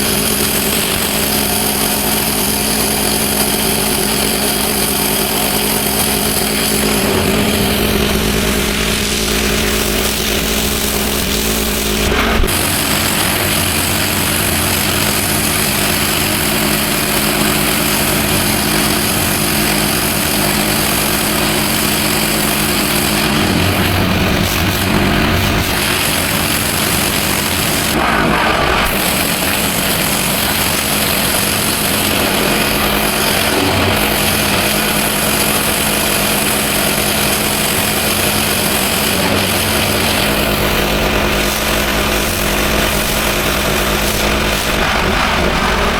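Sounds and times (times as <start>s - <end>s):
pressure washer engine running: 0.0s - 45.9s
water jet hissing on paving: 0.0s - 45.9s.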